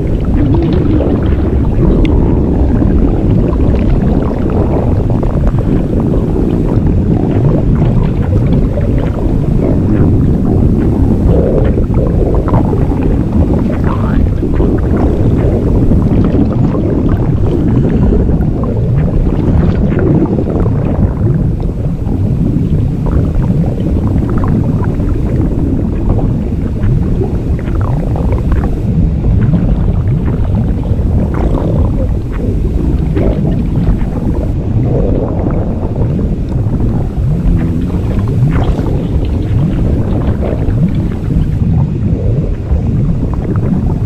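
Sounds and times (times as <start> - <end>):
loud low rumble: 0.0 - 44.0.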